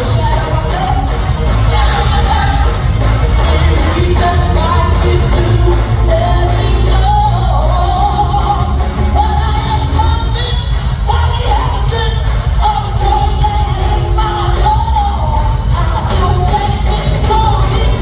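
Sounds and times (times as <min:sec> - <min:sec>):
band with heavy bass and drums: 0:00.0 - 0:18.0
gospel choir singing: 0:00.0 - 0:18.0.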